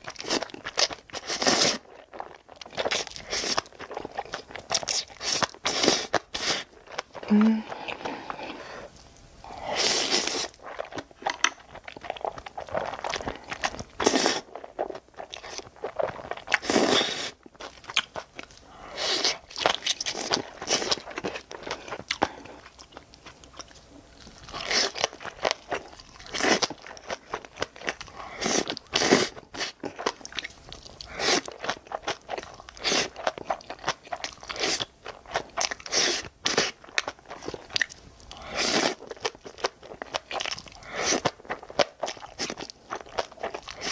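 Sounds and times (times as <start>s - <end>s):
person chewing and crunching food: 0.0s - 43.9s.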